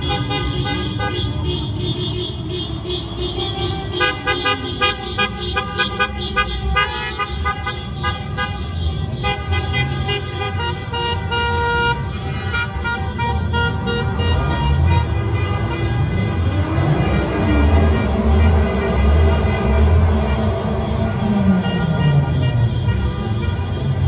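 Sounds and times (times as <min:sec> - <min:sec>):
car engines running: 0:00.0 - 0:12.3, 0:13.0 - 0:24.0
car horns sounding: 0:00.0 - 0:24.0.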